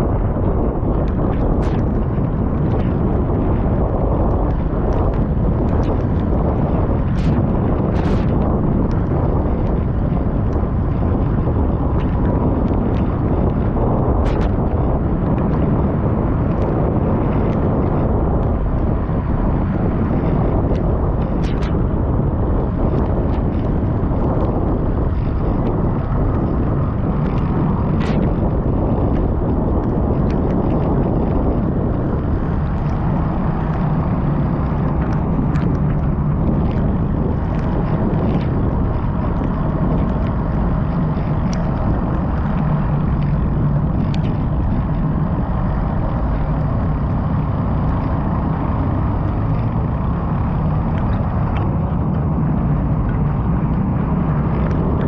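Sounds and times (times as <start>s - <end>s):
low steady hum: 0.0s - 55.0s
road and vehicle noise: 0.0s - 55.0s
wind rushing on microphone: 0.0s - 55.0s.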